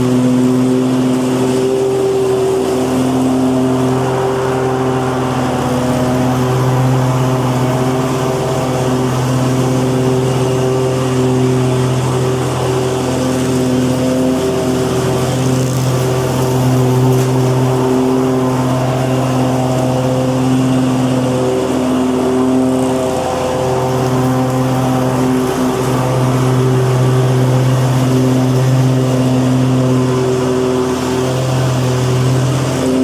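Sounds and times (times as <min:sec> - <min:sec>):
lawnmower engine running: 0:00.0 - 0:33.0.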